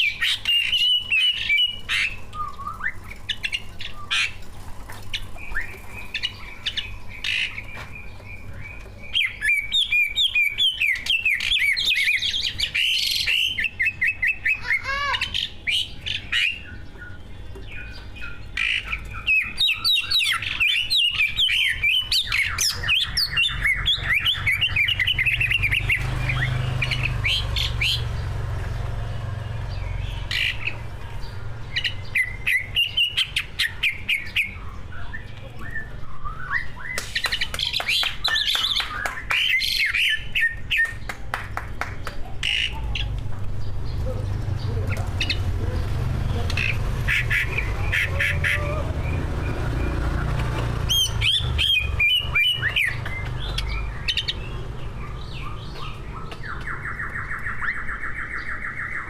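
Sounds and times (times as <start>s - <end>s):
bird singing chirps and trills: 0.0s - 59.0s.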